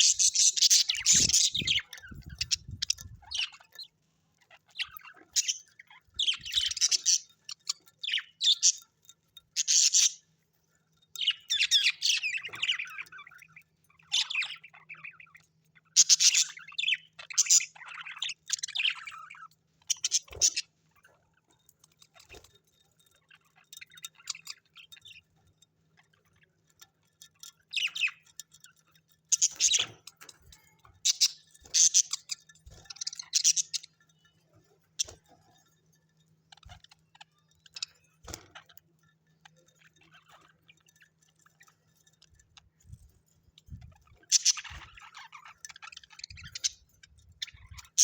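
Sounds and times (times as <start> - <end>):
parrots chirping and squawking: 0.0 - 10.4, 11.2 - 42.9, 43.5 - 48.0.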